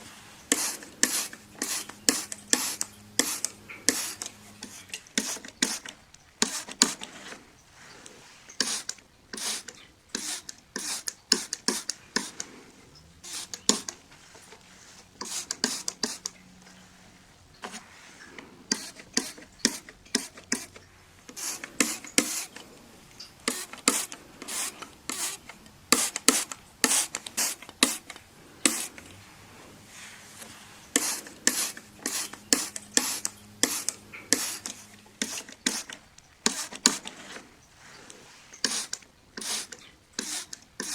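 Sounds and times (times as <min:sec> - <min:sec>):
spray bottle spritzing: 0:00.4 - 0:12.6, 0:13.2 - 0:16.5, 0:17.5 - 0:29.2, 0:29.8 - 0:40.9.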